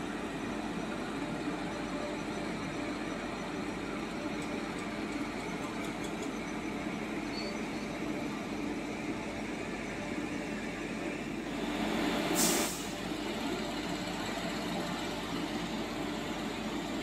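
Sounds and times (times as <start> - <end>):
freight train rolling rumble: 0.0 - 17.0.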